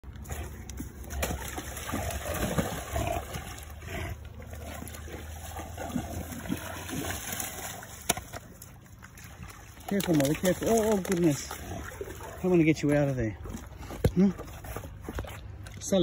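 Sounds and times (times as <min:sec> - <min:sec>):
dog splashing through water: 0:00.2 - 0:16.0.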